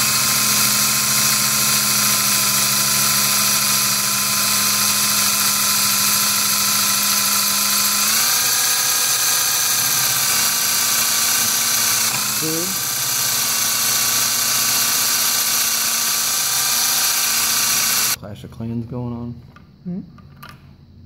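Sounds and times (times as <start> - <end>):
electric drill whining: 0.0 - 18.2.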